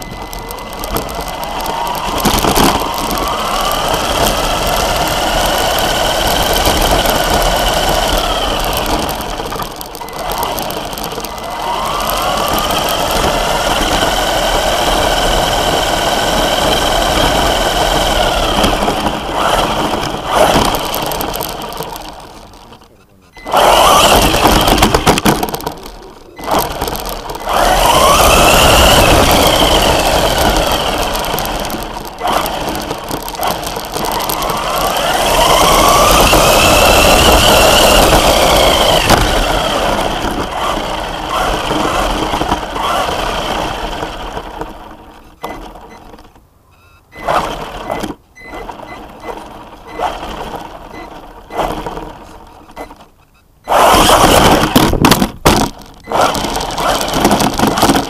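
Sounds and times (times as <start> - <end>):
rc car motor whining: 0.0 - 46.4, 47.0 - 58.0
road noise on rough asphalt: 0.0 - 58.0.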